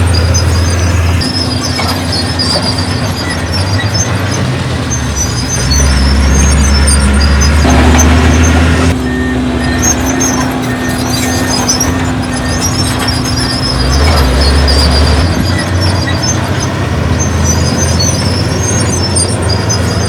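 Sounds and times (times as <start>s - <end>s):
heavy diesel machinery engine: 0.0s - 20.0s
high metallic squeaks: 0.0s - 20.0s.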